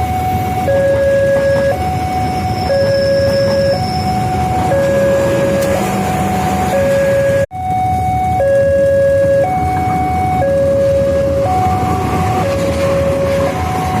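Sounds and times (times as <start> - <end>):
two-tone siren: 0.0 - 14.0.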